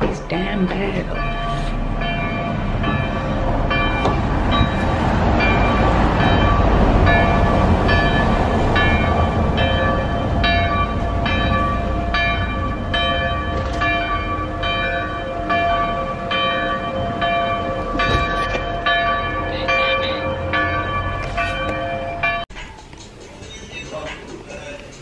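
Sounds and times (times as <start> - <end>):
church bells pealing: 0.0 - 22.5.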